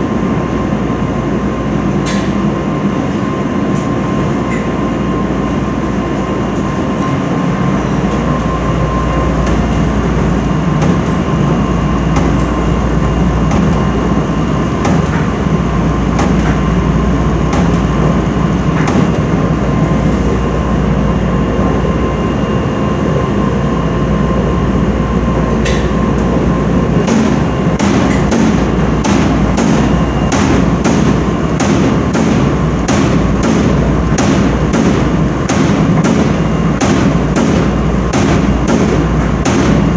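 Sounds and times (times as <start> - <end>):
tumble dryer rumble and hum: 0.0 - 39.9.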